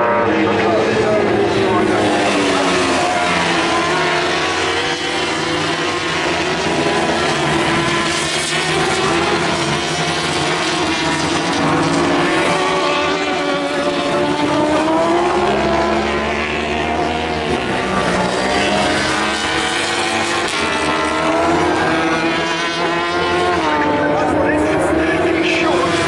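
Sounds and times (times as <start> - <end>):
racing motorcycle engines: 0.0 - 26.0.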